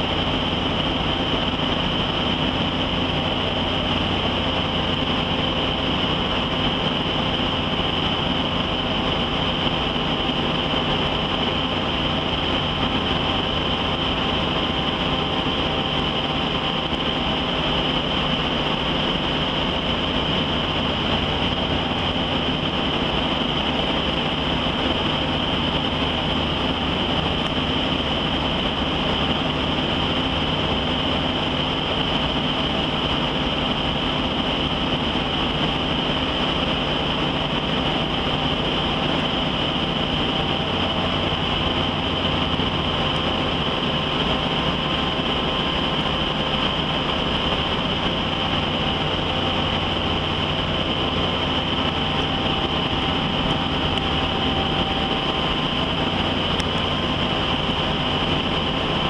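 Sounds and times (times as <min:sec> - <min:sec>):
high machinery whine: 0:00.0 - 0:59.0
ship engines droning: 0:00.0 - 0:59.0.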